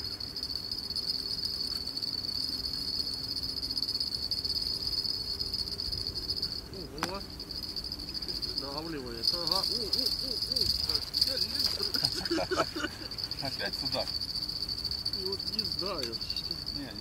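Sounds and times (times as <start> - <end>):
insect trilling: 0.0 - 17.0.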